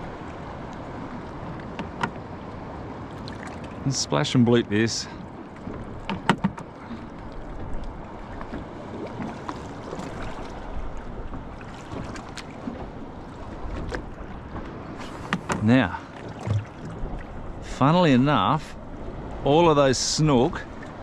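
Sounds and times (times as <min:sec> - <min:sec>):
light wind: 0:00.0 - 0:21.0
water lapping against boat hull: 0:00.0 - 0:21.0.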